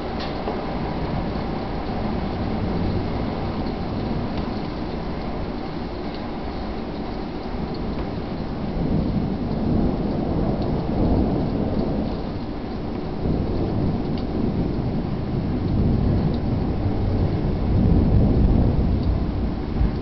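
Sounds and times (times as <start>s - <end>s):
heavy rain: 0.0s - 20.0s
thunder rumbling: 0.0s - 20.0s.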